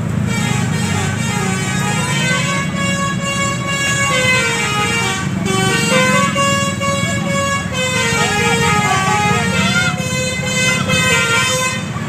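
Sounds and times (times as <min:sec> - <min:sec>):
bus engine rumble: 0:00.0 - 0:12.0
musical bus horn melody: 0:00.0 - 0:12.0.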